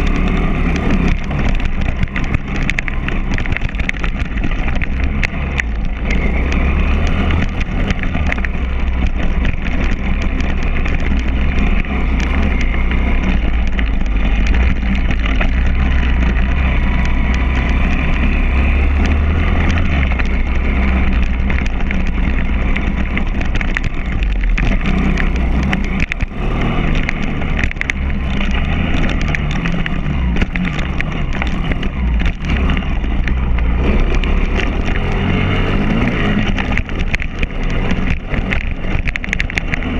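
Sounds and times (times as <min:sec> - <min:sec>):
bike knocking over bumps: 0:00.0 - 0:39.9
motorbike engine revving: 0:00.0 - 0:39.9
wind rumble: 0:00.0 - 0:39.9.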